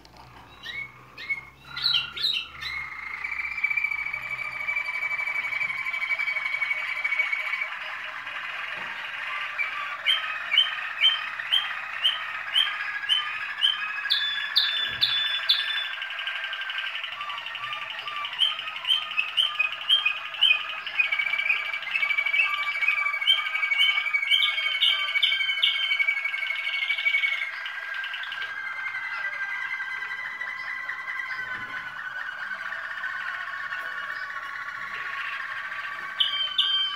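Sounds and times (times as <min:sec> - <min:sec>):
canaries singing: 0:00.0 - 0:36.9.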